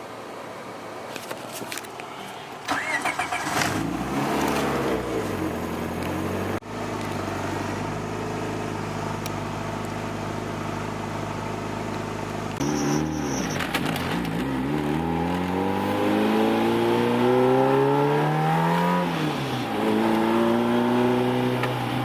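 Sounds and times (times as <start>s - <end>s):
car engine starting and idling: 2.6s - 22.0s.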